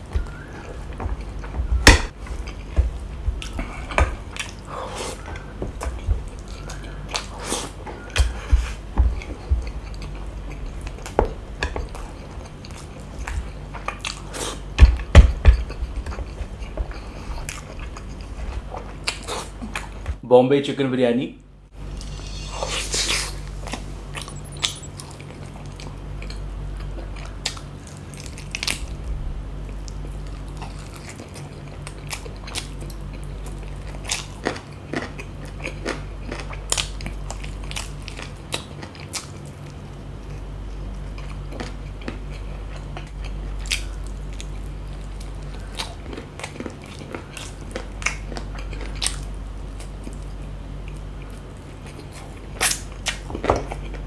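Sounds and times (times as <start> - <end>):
person chewing food: 0.0 - 20.0, 29.6 - 54.0
steady low hum: 0.0 - 20.3, 21.1 - 54.0.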